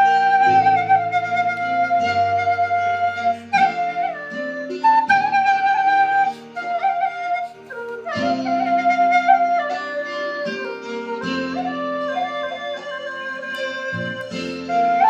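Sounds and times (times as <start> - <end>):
bamboo flute melody: 0.0 - 15.0
sustained low backing notes: 0.0 - 15.0.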